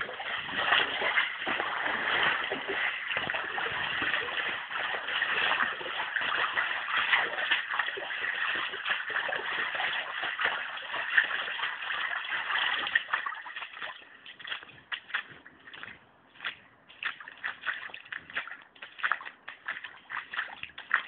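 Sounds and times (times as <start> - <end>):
floodwater splashing: 0.0 - 21.0.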